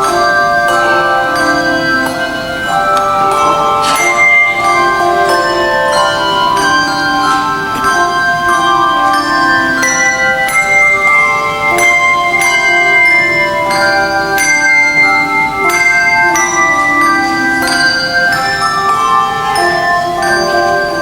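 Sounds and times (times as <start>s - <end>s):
handbell choir playing: 0.0s - 21.0s.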